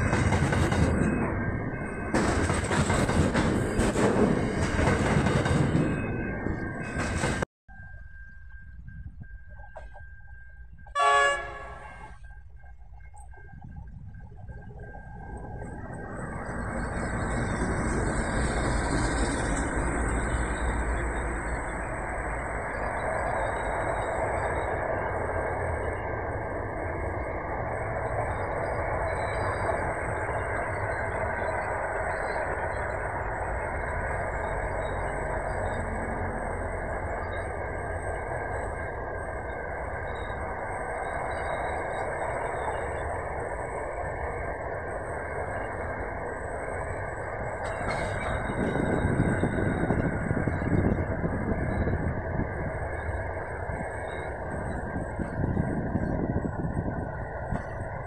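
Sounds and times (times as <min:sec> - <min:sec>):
locomotive passing: 0:00.0 - 0:58.0
train wheels rumbling on rail: 0:00.0 - 0:58.0.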